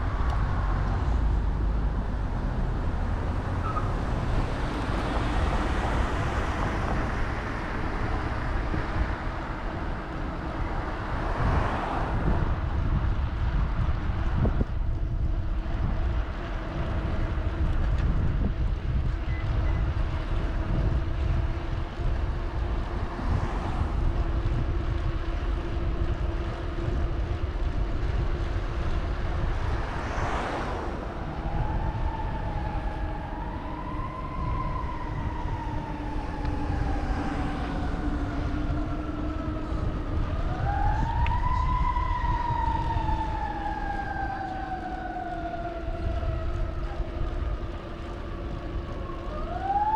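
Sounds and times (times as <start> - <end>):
emergency vehicle siren wailing: 0.0 - 49.9
wind rumble on microphone: 0.0 - 49.9.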